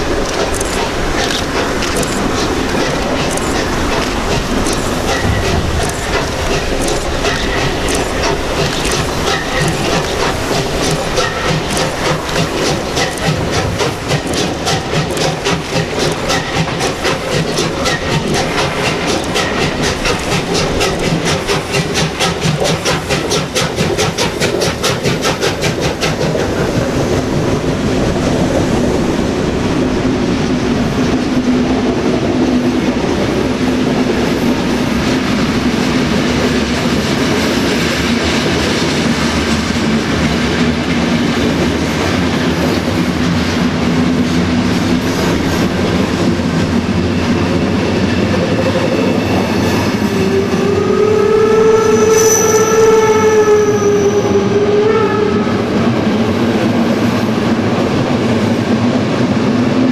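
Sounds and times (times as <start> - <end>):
steam locomotive chuffing: 0.0 - 59.9
train coaches clattering on rails: 0.0 - 59.9.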